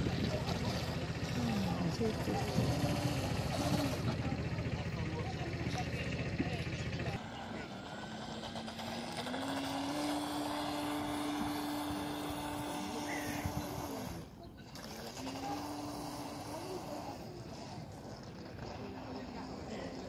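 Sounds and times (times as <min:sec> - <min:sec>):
toy speedboat motor whining: 0:00.0 - 0:06.0, 0:07.0 - 0:20.0.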